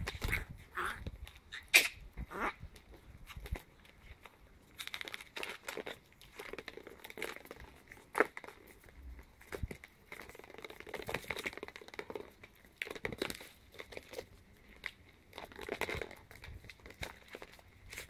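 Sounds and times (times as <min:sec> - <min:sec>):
puppies scuffling on concrete: 0:00.0 - 0:18.0.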